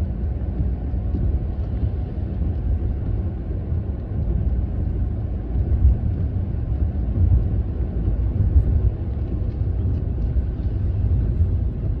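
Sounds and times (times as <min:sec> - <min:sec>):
light rain ticking on car: 0:00.0 - 0:12.0
moving car rumble from inside: 0:00.0 - 0:12.0.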